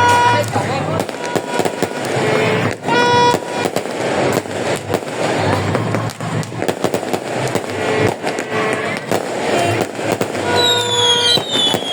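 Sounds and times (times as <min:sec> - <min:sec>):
fireworks bangs: 0:00.0 - 0:11.9
fireworks crackling: 0:00.0 - 0:11.9.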